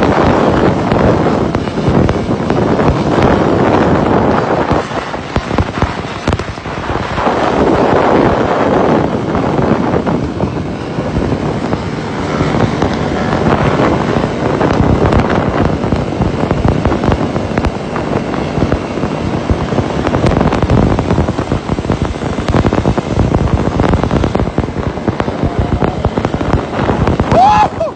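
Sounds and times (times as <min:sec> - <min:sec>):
motorcycle engines running: 0:00.0 - 0:27.9
wind noise on microphone: 0:00.0 - 0:27.9.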